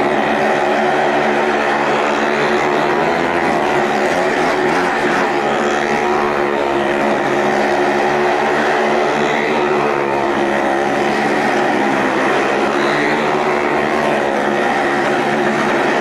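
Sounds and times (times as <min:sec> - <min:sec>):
motorcycle engines at high revs: 0:00.0 - 0:16.0.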